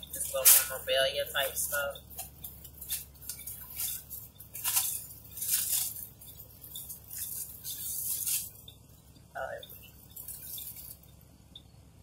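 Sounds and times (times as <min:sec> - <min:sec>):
paper wrapping crinkling: 0:00.0 - 0:08.8, 0:09.6 - 0:11.1.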